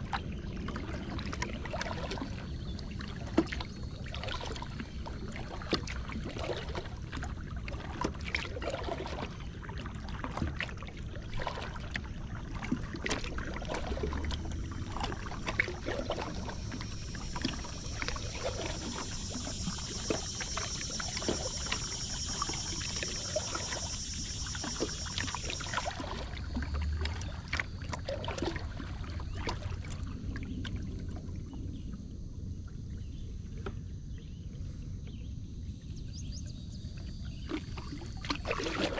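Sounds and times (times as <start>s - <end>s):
paddle splashing water: 0.0s - 31.8s, 37.0s - 38.9s
water lapping at hull: 0.0s - 38.9s.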